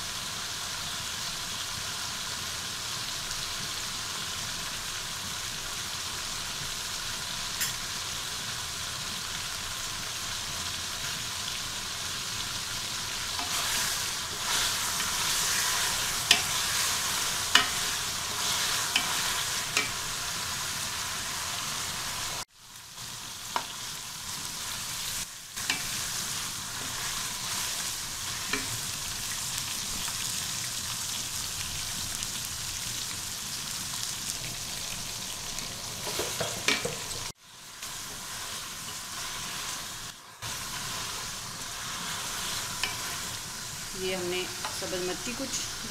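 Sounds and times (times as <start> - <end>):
chicken sizzling in oil: 0.0 - 45.9.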